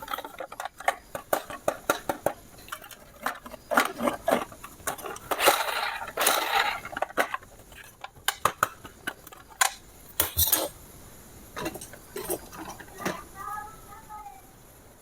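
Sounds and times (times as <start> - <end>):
hard objects clicking and clattering: 0.0 - 10.8, 11.6 - 13.4.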